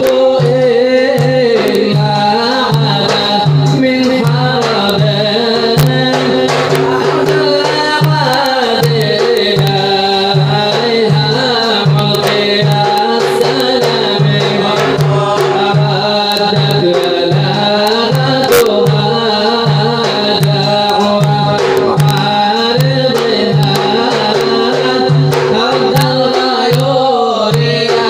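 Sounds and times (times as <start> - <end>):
low hand drum beat: 0.0 - 28.0
man singing: 0.0 - 28.0.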